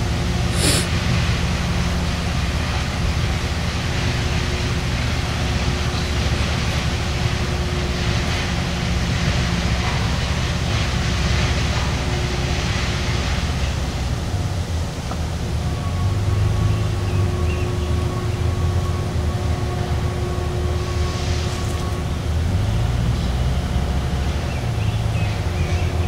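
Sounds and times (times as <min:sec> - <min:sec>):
train rumbling by: 0:00.0 - 0:26.0.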